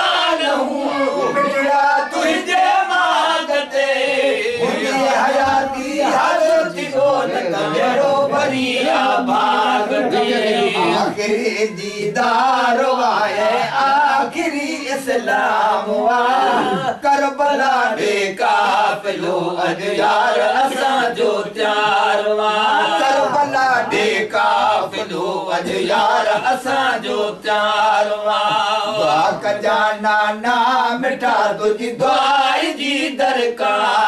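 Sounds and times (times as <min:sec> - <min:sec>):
men chanting unaccompanied: 0:00.0 - 0:34.0.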